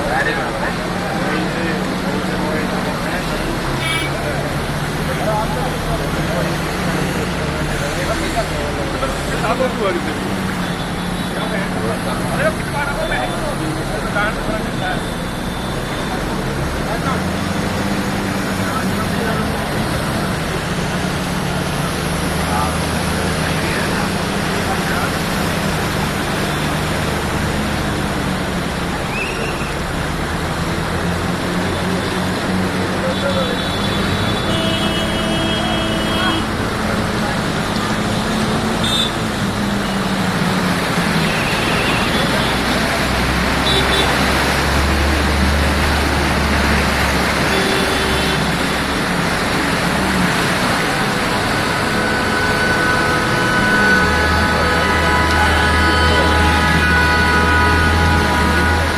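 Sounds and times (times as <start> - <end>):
rushing water: 0.0 - 58.9
vehicle engine hum: 0.0 - 58.9.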